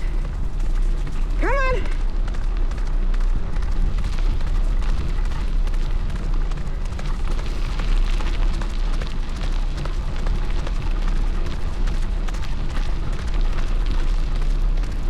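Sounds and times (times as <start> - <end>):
bike rattling: 0.0 - 15.0
tyre and trail noise: 0.0 - 15.0
wind buffeting microphone: 0.0 - 15.0.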